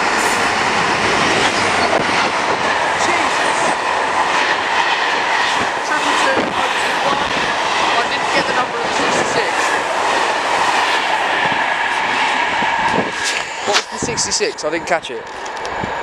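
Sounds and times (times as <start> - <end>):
diesel locomotive passing: 0.0 - 16.0
train wheels rushing: 0.0 - 16.0.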